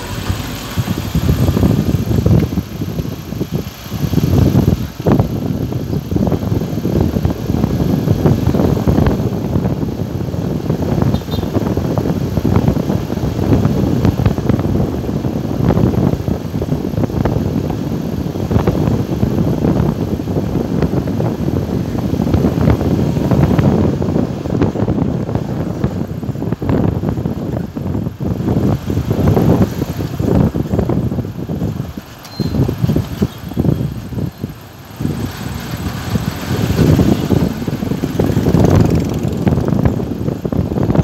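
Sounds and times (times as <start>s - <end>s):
tyre and road noise: 0.0s - 41.0s
wind buffeting microphone: 0.0s - 41.0s.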